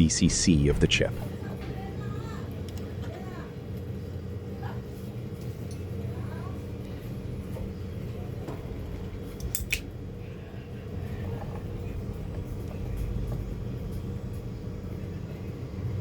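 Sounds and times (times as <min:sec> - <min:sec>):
low background rumble and hum: 0:00.0 - 0:16.0.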